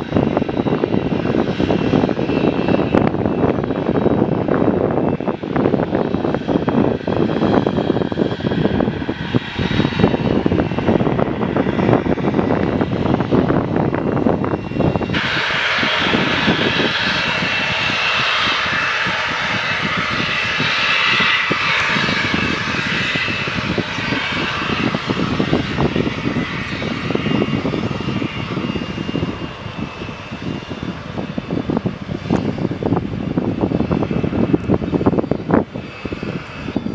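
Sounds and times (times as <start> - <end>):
high jet whine: 0.0 - 36.9
jet engines hissing: 0.0 - 36.9.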